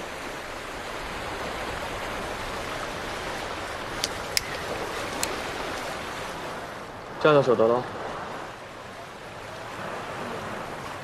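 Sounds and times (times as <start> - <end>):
surf: 0.0 - 11.0
wind on beach: 0.0 - 11.0.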